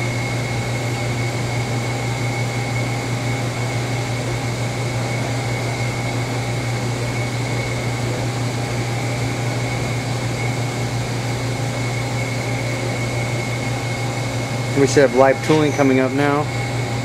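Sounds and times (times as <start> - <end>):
high machine whine: 0.0 - 17.0
machine hum: 0.0 - 17.0.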